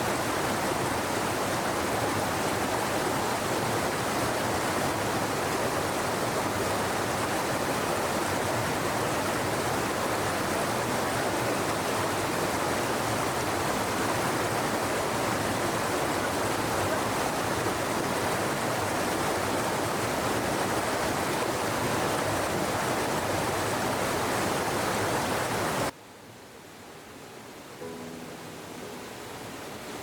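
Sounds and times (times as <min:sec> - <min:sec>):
stream water rushing: 0:00.0 - 0:26.0, 0:27.5 - 0:30.0.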